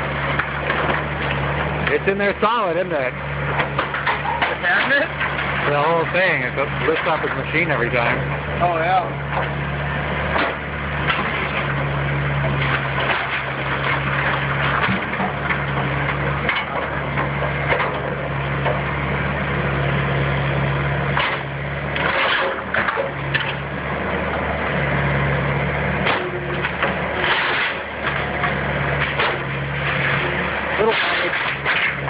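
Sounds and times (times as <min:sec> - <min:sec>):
wood crunching and cracking: 0:00.0 - 0:25.0, 0:25.8 - 0:32.0
demolition machine engine running: 0:00.0 - 0:32.0.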